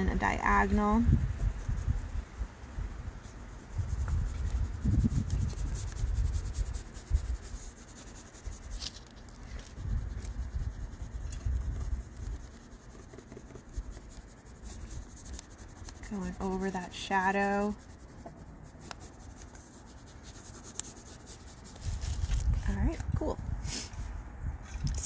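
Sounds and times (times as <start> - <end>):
colored pencil scratching paper: 0.0 - 23.0.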